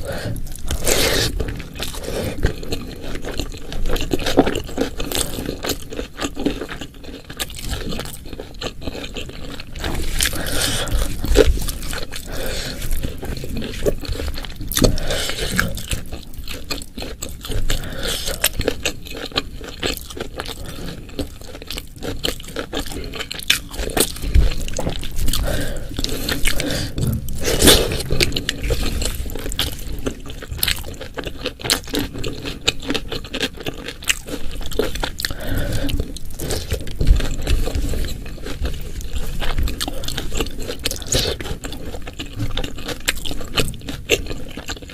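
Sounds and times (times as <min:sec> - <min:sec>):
chewing and crunching food: 0:00.0 - 0:44.9.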